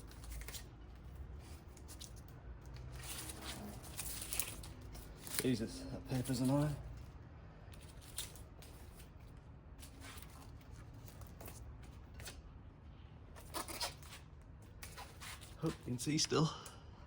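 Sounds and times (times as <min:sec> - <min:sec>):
tape rustling and crinkling: 0:00.0 - 0:12.5, 0:13.3 - 0:16.1.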